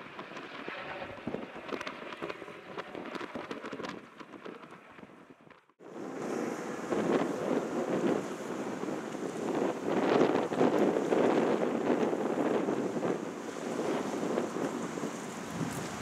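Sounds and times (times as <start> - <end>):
helicopter engine noise: 0.0 - 13.1
helicopter rotor chop: 0.0 - 14.7
wind on microphone: 0.0 - 16.0.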